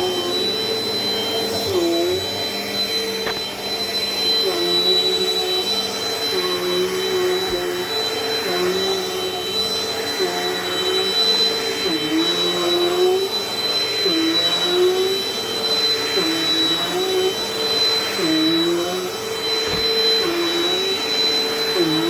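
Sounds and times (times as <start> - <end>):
vacuum cleaner motor whine: 0.0 - 22.0.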